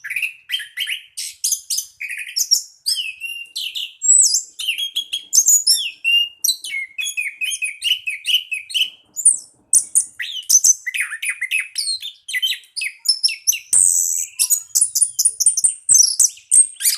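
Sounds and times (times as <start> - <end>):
thrush singing whistles and chirps: 0.0 - 16.9.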